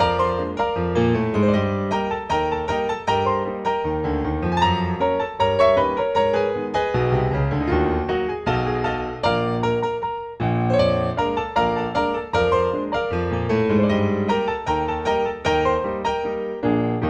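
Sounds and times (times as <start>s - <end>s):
bouncy piano piece: 0.0s - 17.0s.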